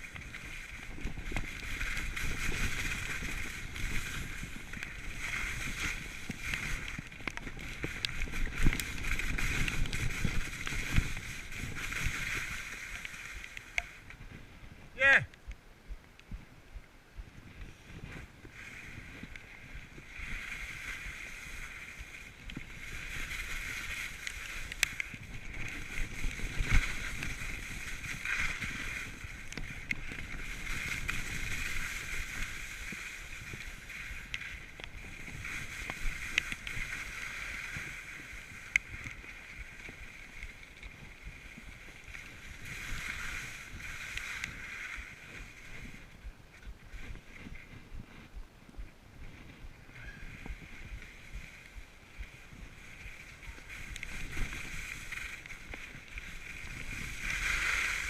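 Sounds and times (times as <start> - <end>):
skis scraping over snow: 0.0 - 15.3, 16.3 - 58.0
wind rumble on microphone: 0.0 - 58.0.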